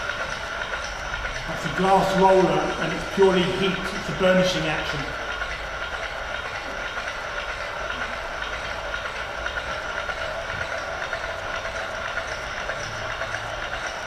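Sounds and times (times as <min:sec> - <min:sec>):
polishing machine hum and rattle: 0:00.0 - 0:14.0.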